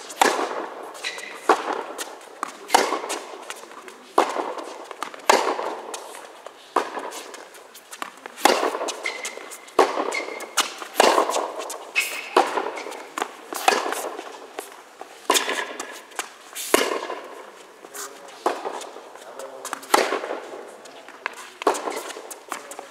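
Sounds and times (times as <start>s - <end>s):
shoes squeaking on court: 0.0s - 22.9s
tennis ball bouncing: 0.0s - 22.9s
tennis racket striking ball: 0.0s - 22.9s.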